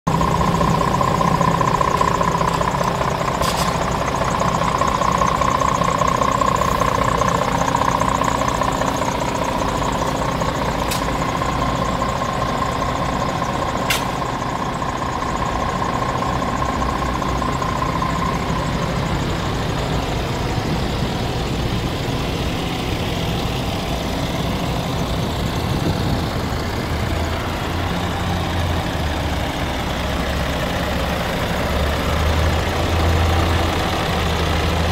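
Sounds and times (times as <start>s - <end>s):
high whine: 0.1s - 30.6s
diesel engine idling: 0.1s - 34.9s.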